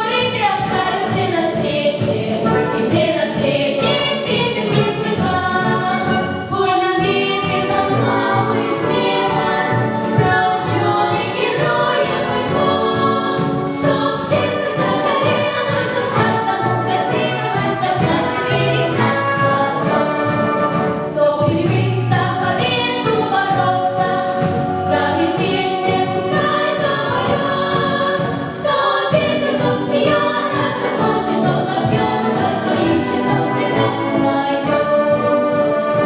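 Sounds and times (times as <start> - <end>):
children's choir singing: 0.0 - 36.0
orchestra playing: 0.0 - 36.0.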